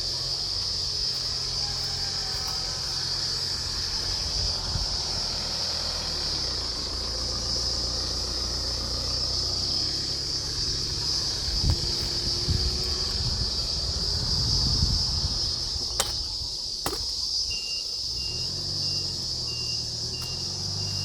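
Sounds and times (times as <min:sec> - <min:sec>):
high-pitched hiss: 0:00.0 - 0:21.0
truck engine running: 0:00.0 - 0:21.0.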